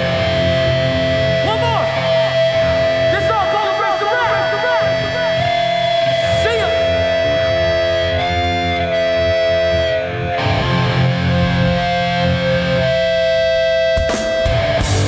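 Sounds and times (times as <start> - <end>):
distorted electric guitars ringing: 0.0 - 15.0
live hardcore band: 0.0 - 15.0.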